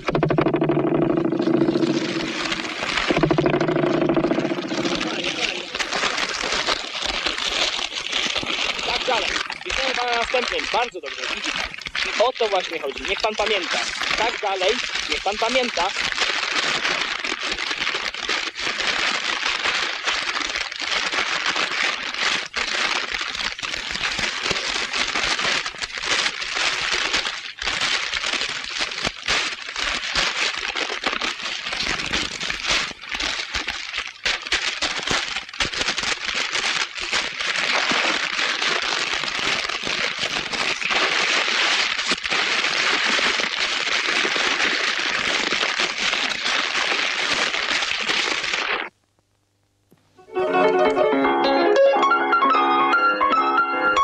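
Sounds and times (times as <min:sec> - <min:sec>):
static hiss with crackling: 0:00.0 - 0:51.1.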